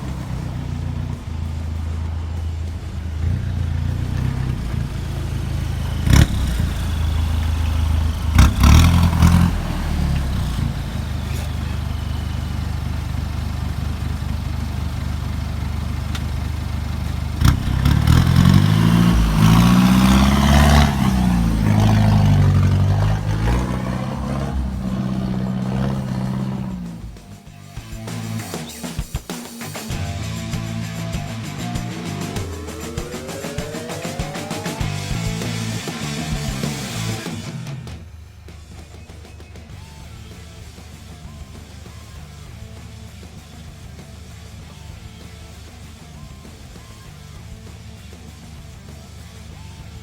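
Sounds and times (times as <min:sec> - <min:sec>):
car engine running at low revs: 0:00.0 - 0:28.6, 0:29.9 - 0:50.0.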